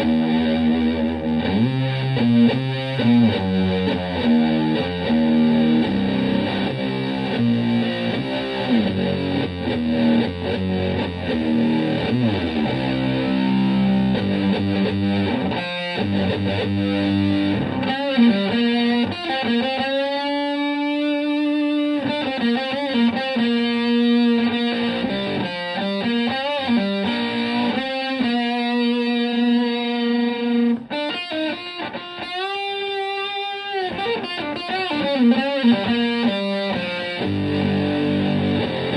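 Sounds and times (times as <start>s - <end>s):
fuzzy distorted electric guitar: 0.0s - 38.9s.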